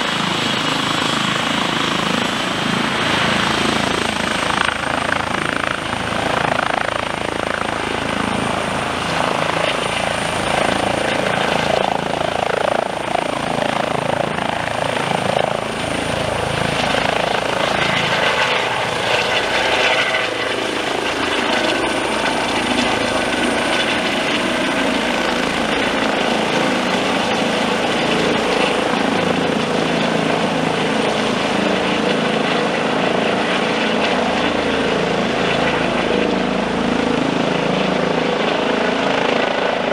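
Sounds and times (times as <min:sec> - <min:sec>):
helicopter lifting off: 0:00.0 - 0:39.9
high turbine whine: 0:00.0 - 0:39.9.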